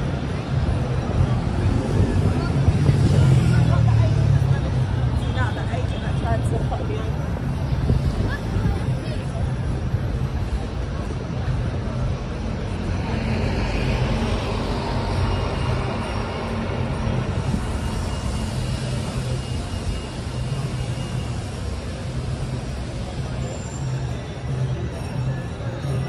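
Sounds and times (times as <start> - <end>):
large vehicle engine humming: 0.0 - 26.0
road noise: 0.0 - 26.0.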